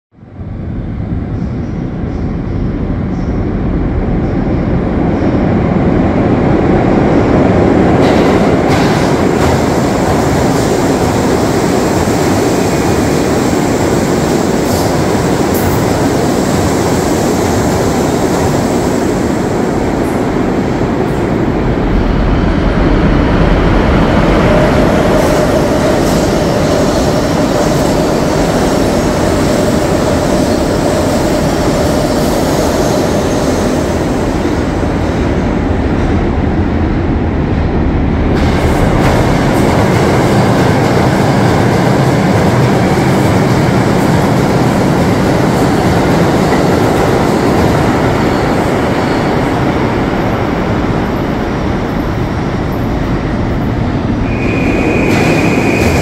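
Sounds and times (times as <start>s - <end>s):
subway train rumbling: 0.0s - 56.0s.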